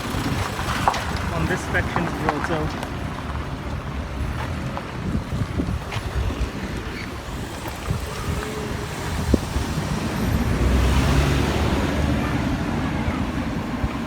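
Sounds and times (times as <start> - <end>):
road traffic passing: 0.0 - 14.0
wind buffeting microphone: 0.0 - 14.0.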